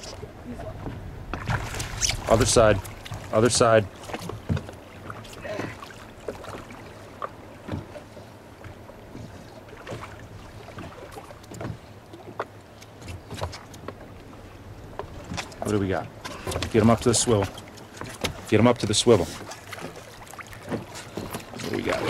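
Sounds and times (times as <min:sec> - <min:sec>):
boat engine hum: 0:00.0 - 0:22.0
water noise: 0:00.0 - 0:22.0
wind: 0:00.0 - 0:22.0.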